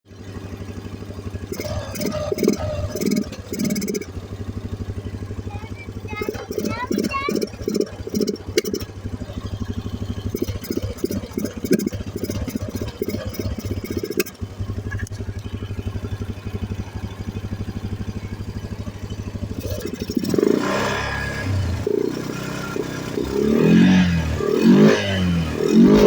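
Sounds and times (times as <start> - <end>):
atv engine idling and revving: 0.0 - 26.0.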